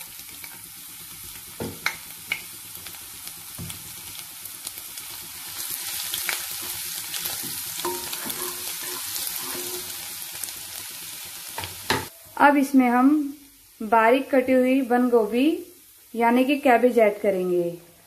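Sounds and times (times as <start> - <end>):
sizzling in hot oil: 0.0 - 17.7.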